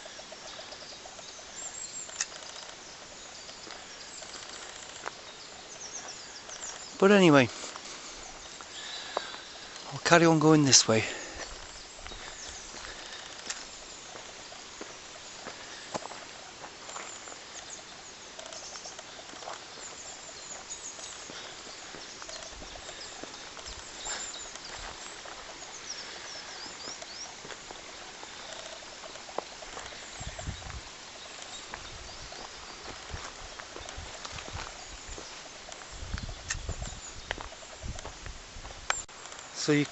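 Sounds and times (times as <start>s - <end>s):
footsteps on forest path: 0.0s - 39.9s
small birds chirping: 0.0s - 39.9s.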